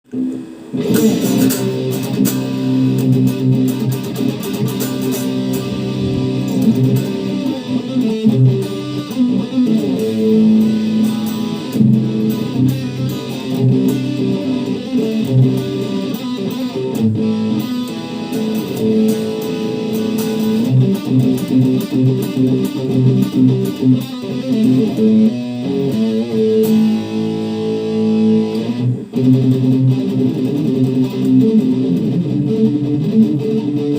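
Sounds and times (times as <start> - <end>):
overdriven electric guitar: 0.0 - 33.9.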